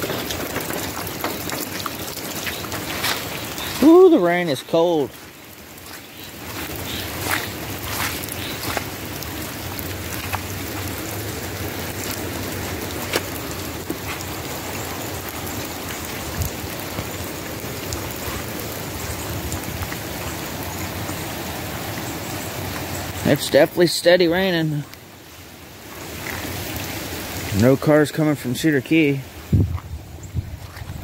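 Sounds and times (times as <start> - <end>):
raindrops ticking on device: 0.0 - 25.2
steady rain falling: 0.0 - 31.0.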